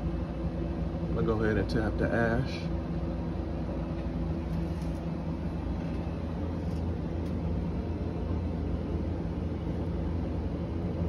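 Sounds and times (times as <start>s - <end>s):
low mechanical hum of machine: 0.0s - 11.0s.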